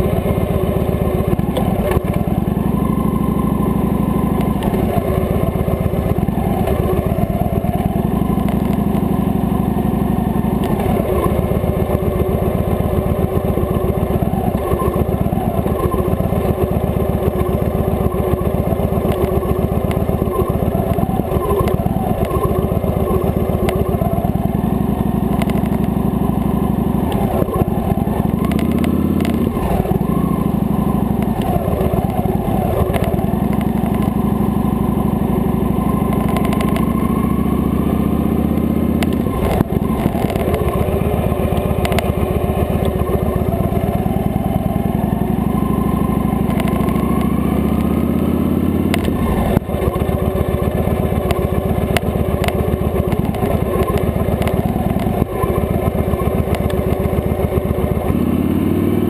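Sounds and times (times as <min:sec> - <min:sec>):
v-twin motorcycle engine: 0:00.0 - 0:59.0.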